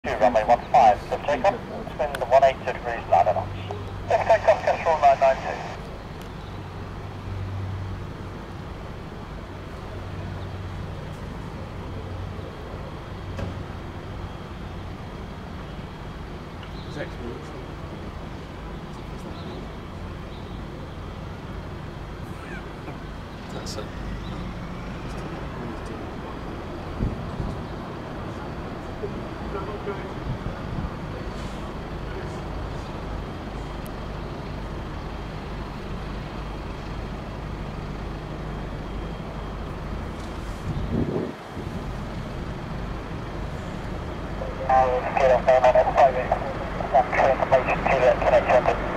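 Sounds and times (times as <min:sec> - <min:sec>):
distant jet engines running: 0:00.0 - 0:48.9.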